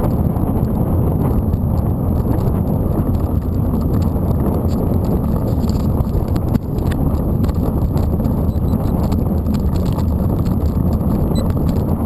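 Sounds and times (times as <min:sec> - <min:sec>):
wind on microphone: 0:00.0 - 0:12.0
tyres rolling over dirt: 0:01.2 - 0:12.0
bike clicks and rattles: 0:01.4 - 0:12.0.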